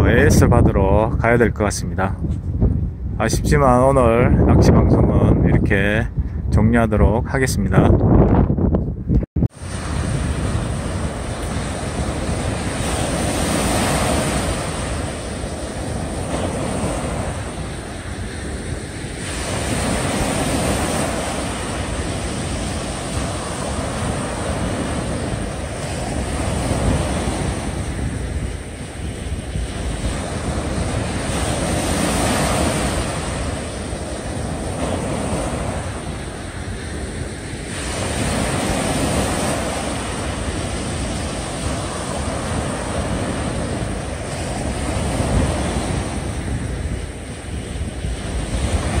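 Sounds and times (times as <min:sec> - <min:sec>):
wind gusting on microphone: 0:00.0 - 0:49.0
sea waves surging: 0:09.4 - 0:49.0.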